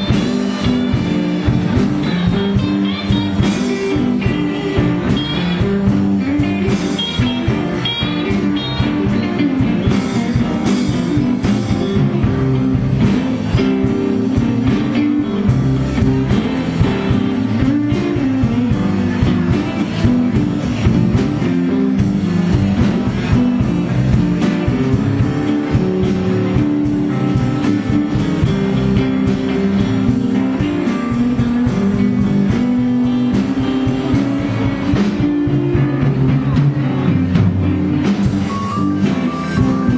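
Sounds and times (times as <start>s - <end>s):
live blues band playing: 0.0s - 39.9s
steady drum beat: 0.0s - 39.9s
walking bass line: 0.0s - 39.9s.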